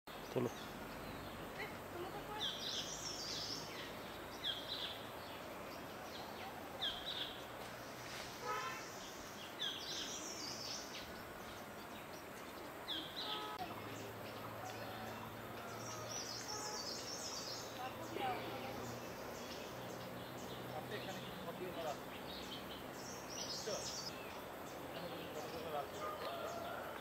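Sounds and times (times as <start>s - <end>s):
background hiss: 0.1s - 27.0s
wild birds calling: 0.1s - 27.0s.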